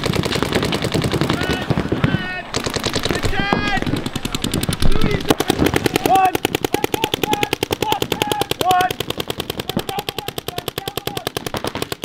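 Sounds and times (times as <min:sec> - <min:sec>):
paintball guns firing rapidly: 0:00.0 - 0:12.0.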